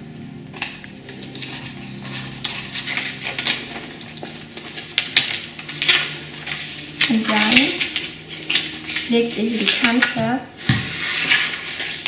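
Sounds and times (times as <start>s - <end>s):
stiff paper rustling and crackling: 0.6s - 12.0s.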